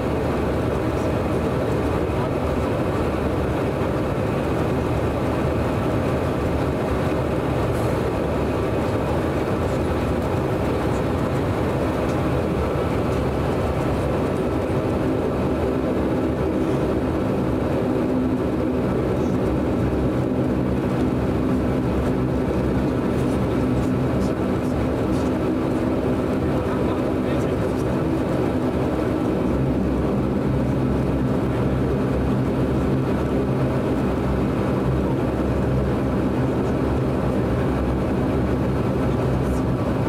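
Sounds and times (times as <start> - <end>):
turboprop engine droning: 0.0 - 40.0.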